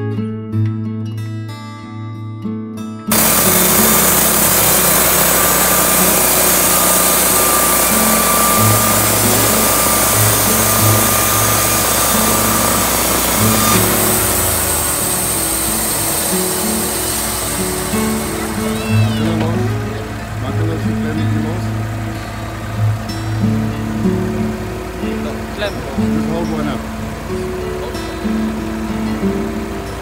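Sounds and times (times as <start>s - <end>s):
band sawmill cutting log: 3.1s - 30.0s.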